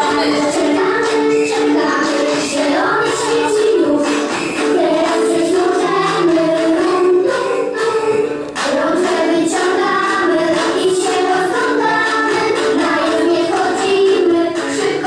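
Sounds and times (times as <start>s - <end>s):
children's song music: 0.0s - 15.0s
women and children singing: 0.0s - 15.0s.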